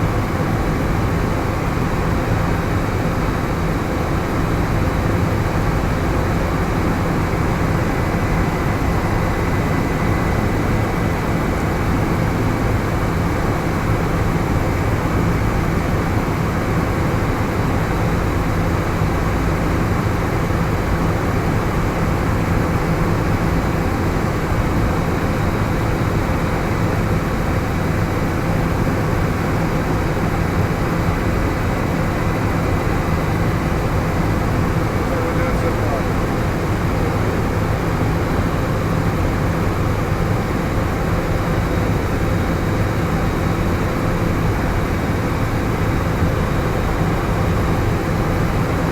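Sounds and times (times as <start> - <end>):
helicopter engine and rotors: 0.0 - 48.9.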